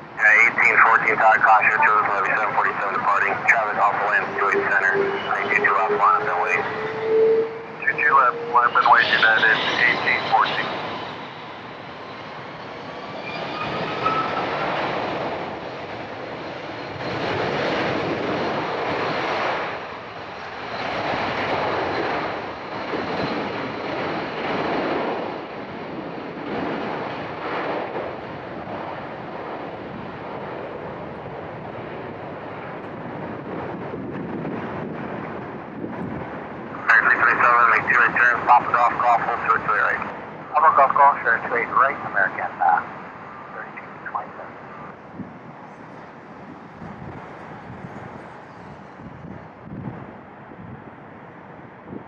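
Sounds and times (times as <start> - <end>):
jet engines roaring at takeoff: 0.0 - 52.0.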